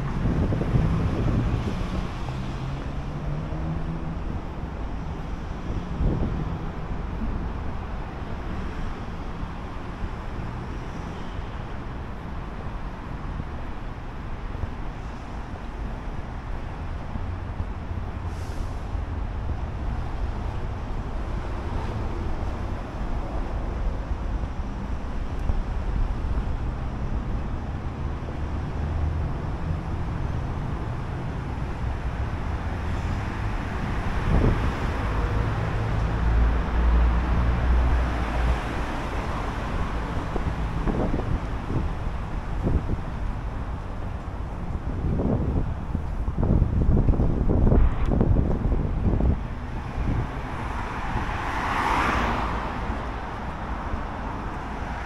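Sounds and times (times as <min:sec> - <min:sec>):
cars passing: 0:00.0 - 0:55.0.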